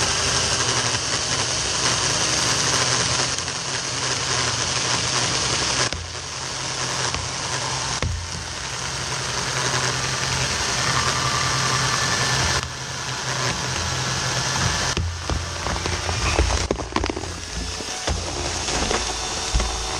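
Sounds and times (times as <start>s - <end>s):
chainsaw cutting a tree limb: 0.0s - 19.9s.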